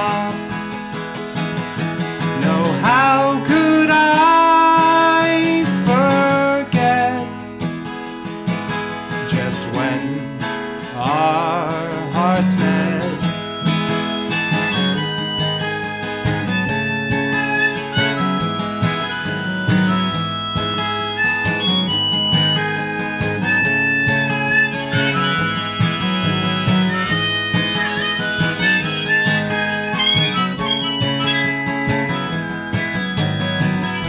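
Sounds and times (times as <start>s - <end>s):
harmonica melody: 0.0s - 8.8s, 11.1s - 34.0s
acoustic guitar accompaniment: 0.0s - 34.0s.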